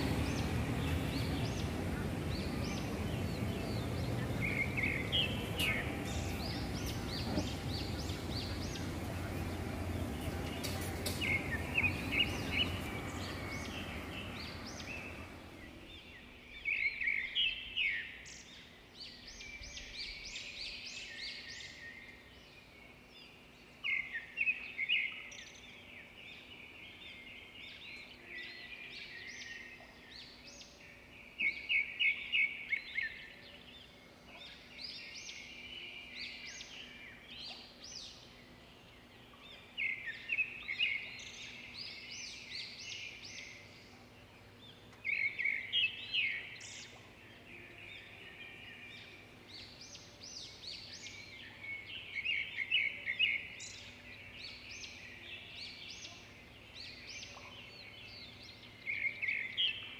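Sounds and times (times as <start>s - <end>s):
birds chirping and singing: 0.0s - 59.9s
faint steady hum: 0.0s - 59.9s.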